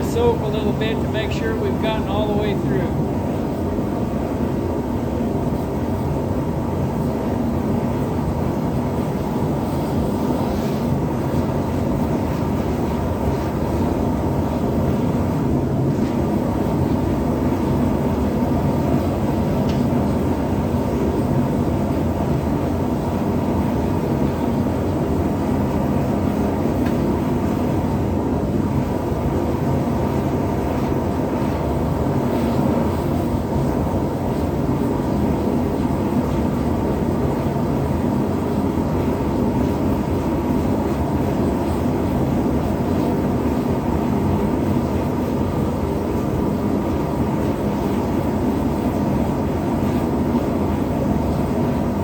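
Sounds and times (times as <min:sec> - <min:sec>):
forge burner rushing: 0:00.0 - 0:52.0.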